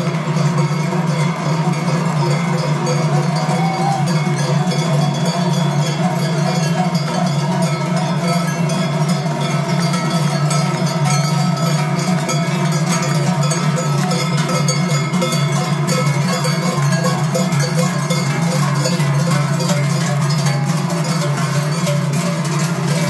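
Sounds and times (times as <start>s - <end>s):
large cowbells clanging: 0.0s - 23.0s.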